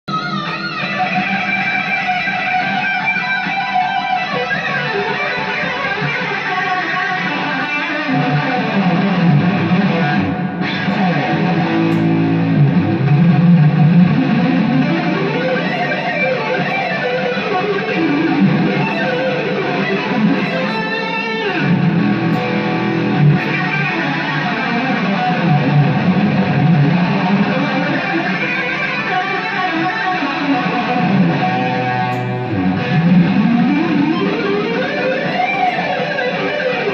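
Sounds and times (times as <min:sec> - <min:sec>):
electric guitar notes and chords: 0:00.0 - 0:36.9.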